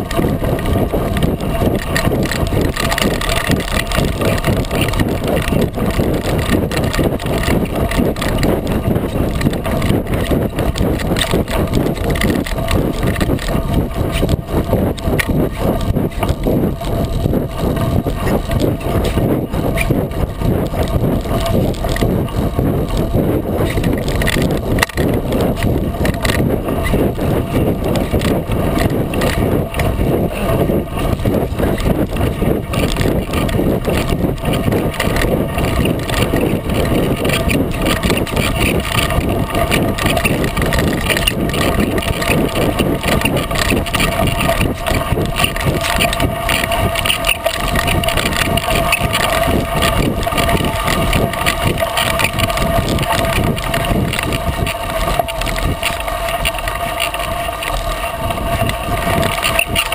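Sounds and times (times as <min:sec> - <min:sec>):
tyre rumbling on gravel trail: 0:00.0 - 0:59.9
wind on microphone: 0:00.0 - 0:59.9.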